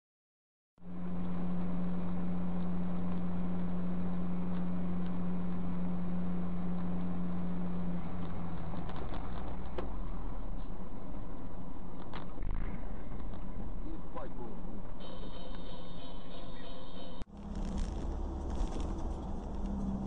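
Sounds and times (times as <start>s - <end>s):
car engine hum: 0.8s - 16.6s, 17.2s - 20.0s
tyre and road noise: 0.8s - 20.0s.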